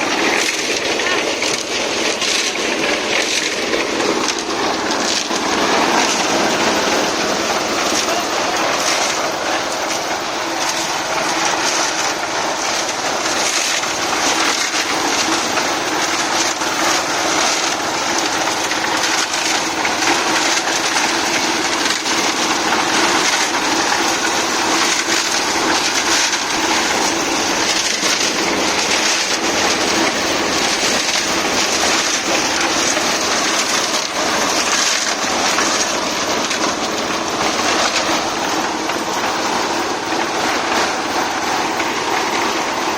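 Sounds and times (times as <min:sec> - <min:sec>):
machinery grinding and rattling: 0:00.0 - 0:42.9.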